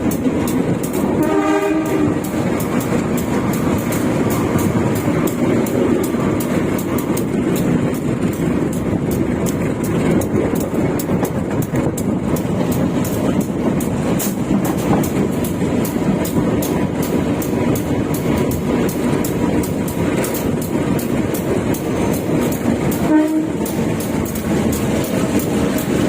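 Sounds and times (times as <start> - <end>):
rapid clicks and rattles: 0.0 - 1.2, 2.1 - 26.0
train wheels rumbling on rails: 0.0 - 26.0.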